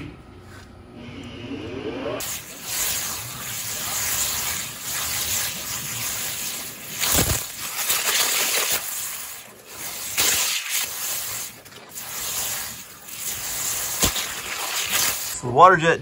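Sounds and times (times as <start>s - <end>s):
loud hiss of water jet: 2.2s - 15.4s
splashing water: 2.2s - 15.4s.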